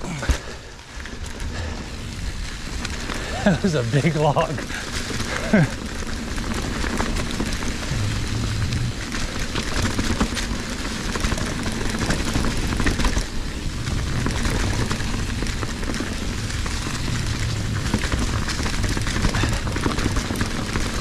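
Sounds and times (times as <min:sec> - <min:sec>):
bike clicks and rattles: 0:00.0 - 0:21.0
bike tyres rolling over leaves: 0:00.0 - 0:21.0.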